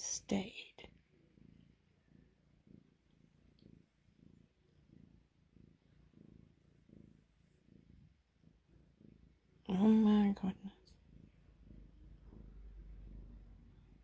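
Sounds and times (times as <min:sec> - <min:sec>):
kitten purring: 0:00.0 - 0:14.0.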